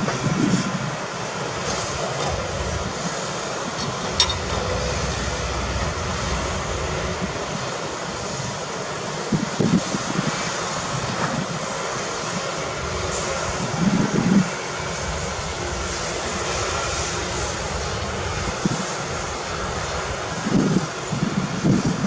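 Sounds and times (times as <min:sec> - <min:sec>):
diesel engines rumbling: 0:00.0 - 0:11.3, 0:11.9 - 0:21.9.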